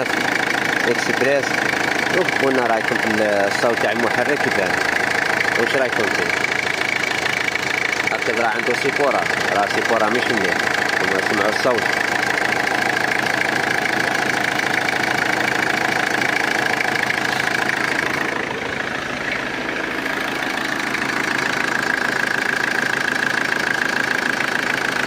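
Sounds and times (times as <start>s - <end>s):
diesel engine idling with clatter: 0.0s - 25.0s.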